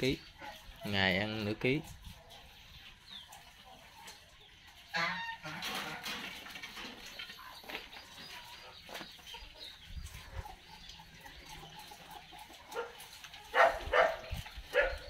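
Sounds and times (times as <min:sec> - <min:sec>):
chicken clucking and squawking: 0:00.0 - 0:15.0.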